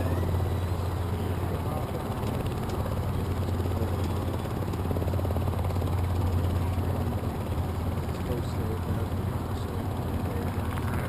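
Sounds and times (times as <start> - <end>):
piston aircraft engine idling: 0.0 - 11.0.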